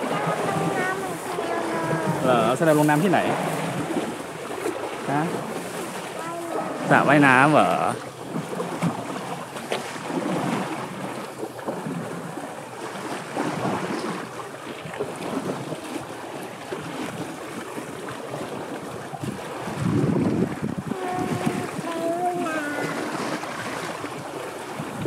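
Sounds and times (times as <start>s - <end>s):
wind on microphone: 0.0s - 7.5s, 8.3s - 25.0s
water sloshing and splashing: 0.0s - 25.0s.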